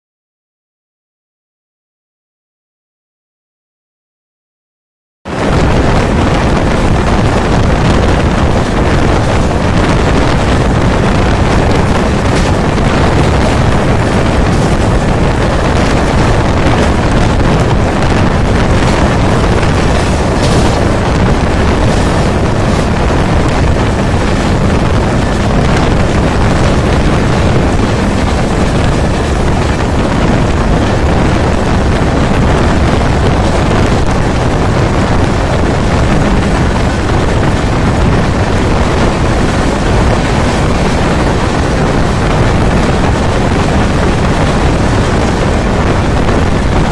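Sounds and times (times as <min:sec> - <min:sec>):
train wheels rumbling on rails: 0:05.3 - 0:46.9
wind buffeting microphone: 0:05.3 - 0:46.9
train running over points: 0:05.5 - 0:46.9.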